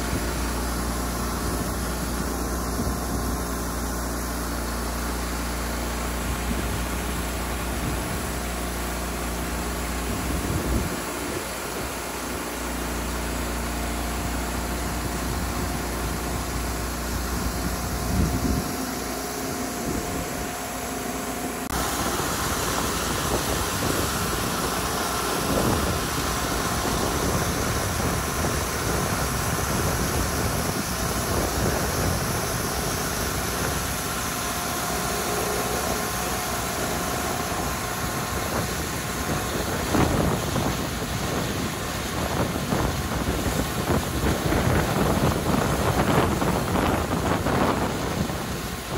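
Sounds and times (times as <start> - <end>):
sawmill engine idling: 0.0 - 48.9.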